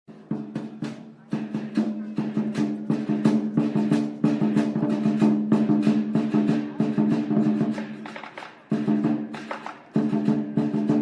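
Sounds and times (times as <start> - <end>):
drums beaten in fast rhythm: 0.1 - 11.0.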